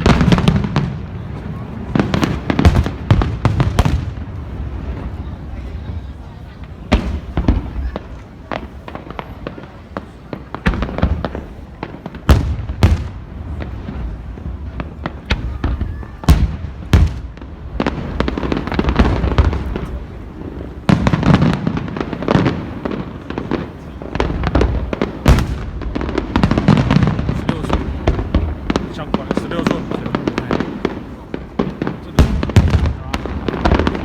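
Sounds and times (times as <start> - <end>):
fireworks bangs and crackles: 0.0 - 34.0
loud firework booms: 0.0 - 34.0.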